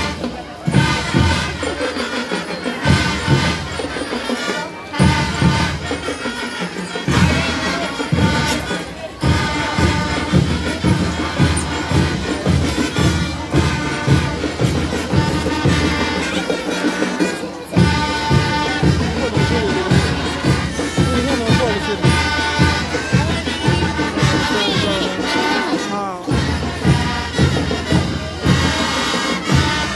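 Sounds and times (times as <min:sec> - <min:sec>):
marching band playing: 0:00.0 - 0:29.9
regular drum beat: 0:00.0 - 0:29.9.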